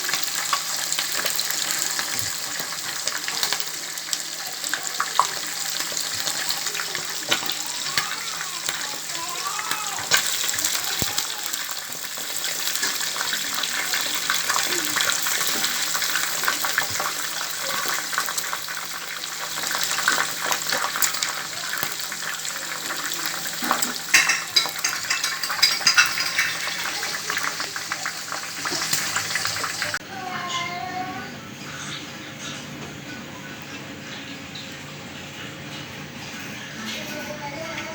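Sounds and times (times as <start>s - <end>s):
food sizzling in hot oil: 0.0s - 30.4s.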